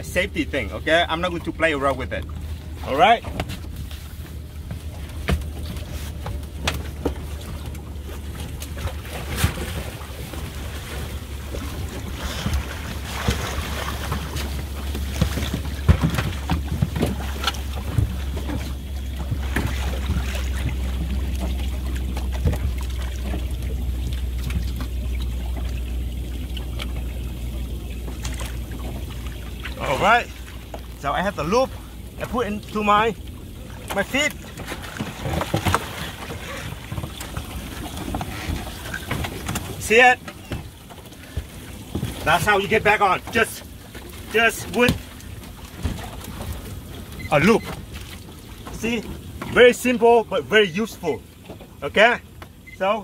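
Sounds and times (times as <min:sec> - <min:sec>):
water splashing against boat hull: 0:00.0 - 0:53.0.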